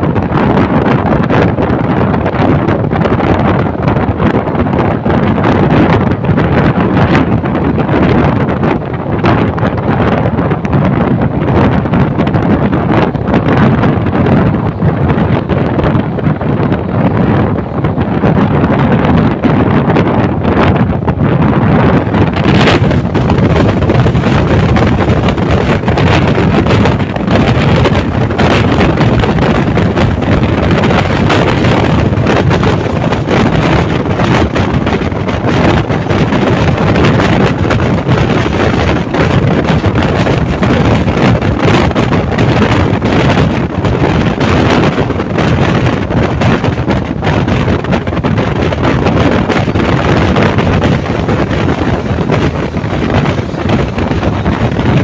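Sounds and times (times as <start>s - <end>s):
train rumbling on track: 0.0s - 55.0s
wind buffeting microphone: 0.0s - 55.0s.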